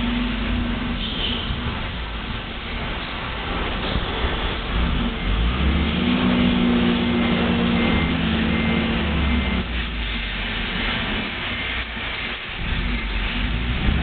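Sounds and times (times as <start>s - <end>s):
forklift engine running under load: 0.0s - 14.0s.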